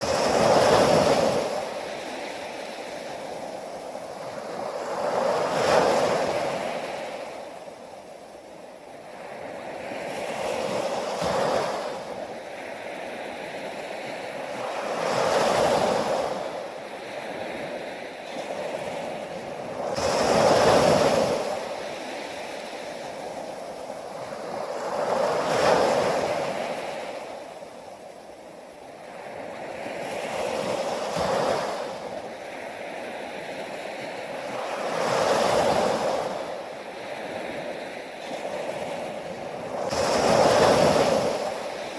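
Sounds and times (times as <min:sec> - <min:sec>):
ocean waves washing onto shore: 0:00.0 - 0:41.9.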